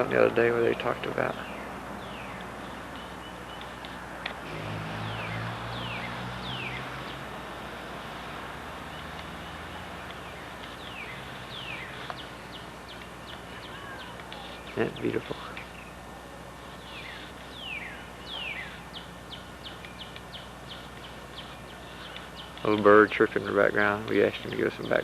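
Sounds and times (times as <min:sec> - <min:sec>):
low hum: 0:00.0 - 0:24.8
small birds chirping: 0:00.0 - 0:25.0
steady hiss: 0:00.0 - 0:25.0.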